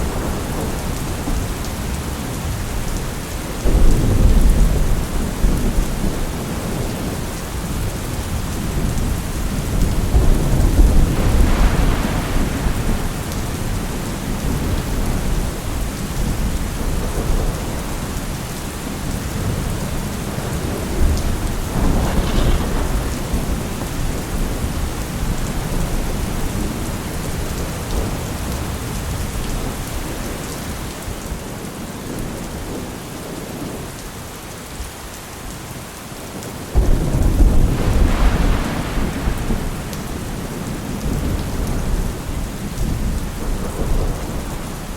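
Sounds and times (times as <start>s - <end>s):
rolling thunder: 0.0s - 30.2s, 36.7s - 44.9s
steady rain: 0.0s - 44.9s.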